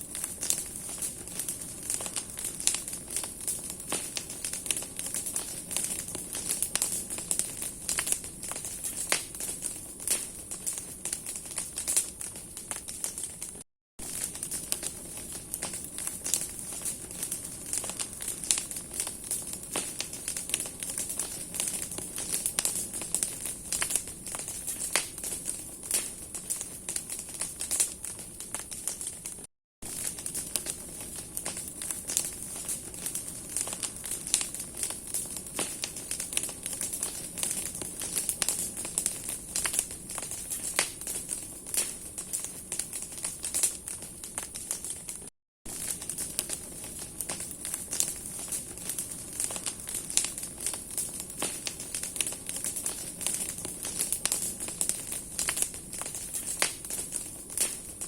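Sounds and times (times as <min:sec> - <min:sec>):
bonfire crackling and popping: 0:00.0 - 0:58.0.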